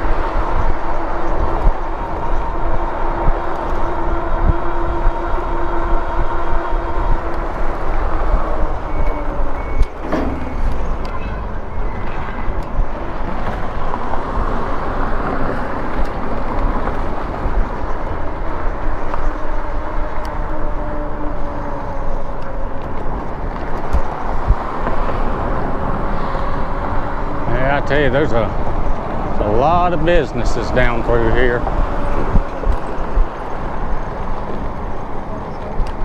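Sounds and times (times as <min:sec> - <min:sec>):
tyres rumbling on pavement: 0:00.0 - 0:36.0
wind rushing over microphone: 0:00.0 - 0:36.0.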